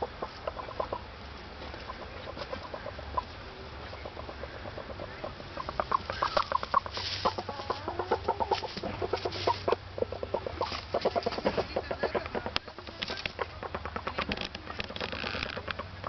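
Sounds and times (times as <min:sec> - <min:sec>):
rooster clucking: 0:00.0 - 0:16.0.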